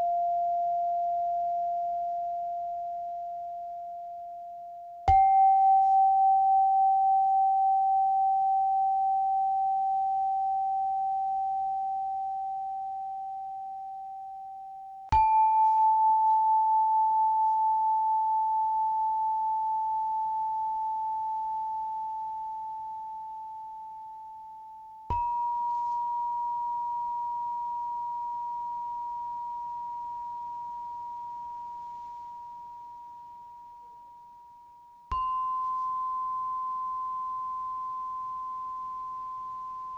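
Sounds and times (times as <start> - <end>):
meditation bell ringing: 0.0 - 39.9.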